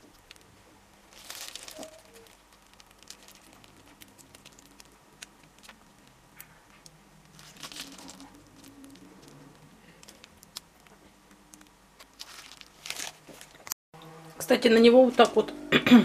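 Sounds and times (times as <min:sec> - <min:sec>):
plastic piping bag crinkling: 0:00.0 - 0:13.8.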